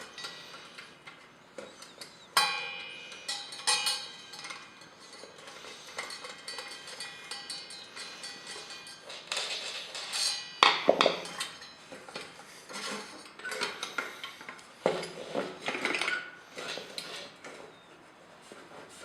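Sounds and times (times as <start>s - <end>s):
plastic fan parts rattling: 0.0s - 17.7s.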